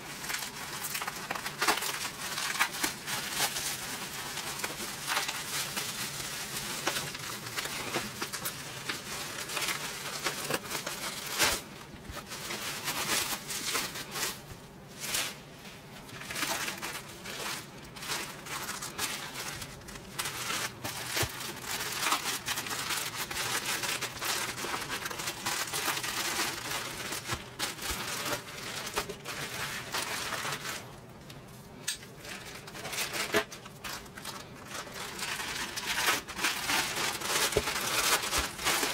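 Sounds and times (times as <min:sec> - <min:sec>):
scissors cutting plastic bag: 0:00.0 - 0:14.4, 0:16.1 - 0:30.9, 0:31.9 - 0:38.9
bubble wrap crinkling: 0:00.0 - 0:38.9.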